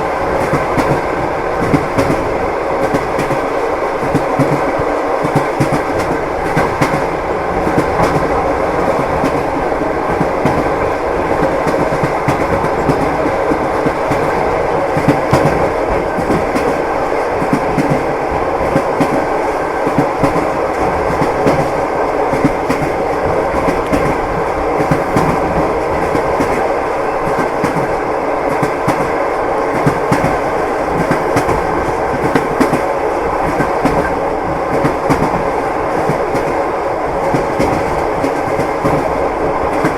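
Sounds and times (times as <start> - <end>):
train rolling rumble: 0.0 - 39.9
train wheels clicking on rail joints: 0.1 - 39.9.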